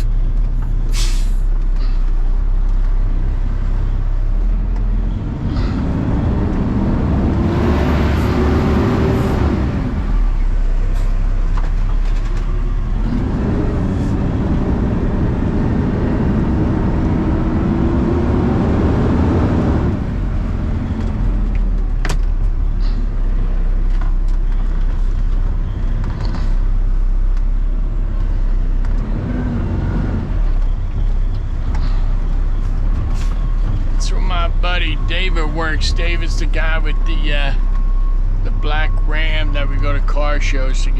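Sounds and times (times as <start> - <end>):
engine whine: 0.0 - 40.9
truck engine and road noise: 0.0 - 40.9.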